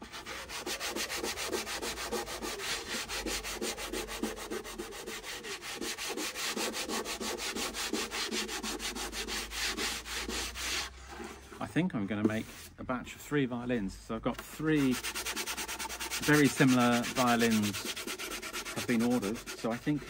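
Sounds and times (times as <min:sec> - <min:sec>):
sandpaper scraping wood: 0:00.0 - 0:11.6, 0:12.2 - 0:12.8, 0:14.4 - 0:20.0.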